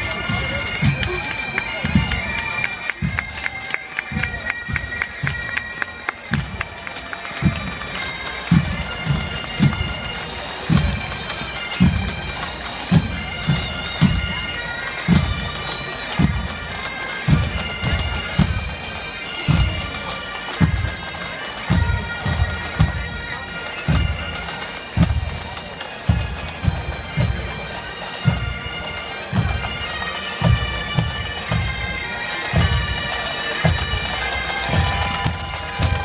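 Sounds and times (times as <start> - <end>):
bagpipes playing a march: 0.0 - 36.0.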